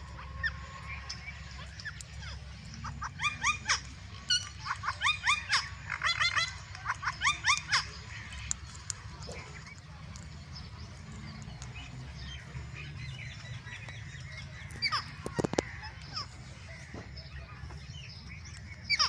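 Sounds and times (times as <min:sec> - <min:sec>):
parakeets screeching: 0:00.0 - 0:19.0.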